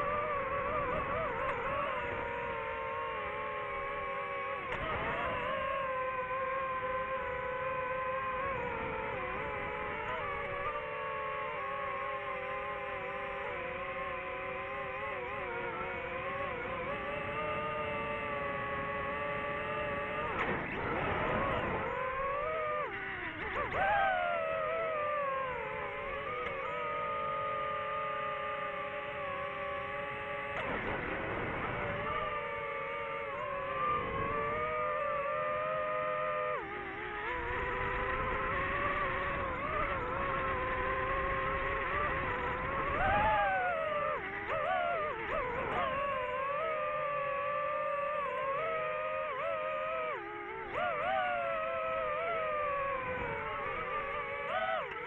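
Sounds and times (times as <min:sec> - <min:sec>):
drone propellers whining: 0:00.0 - 0:55.0
low wind rumble: 0:00.0 - 0:55.0.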